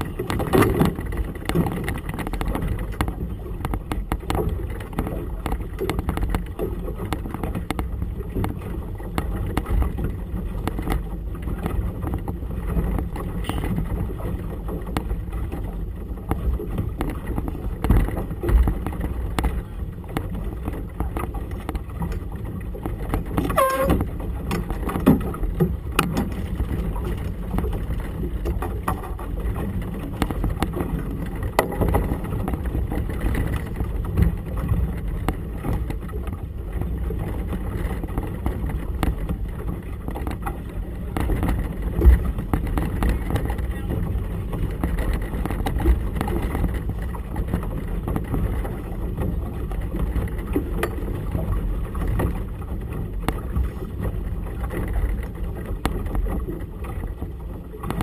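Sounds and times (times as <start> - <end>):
water slapping boat hull: 0.0 - 58.0.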